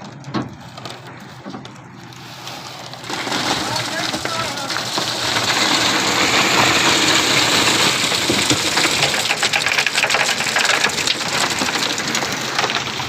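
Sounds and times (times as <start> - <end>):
concrete mixer running: 0.0 - 13.0
rattling clatter: 2.4 - 13.0.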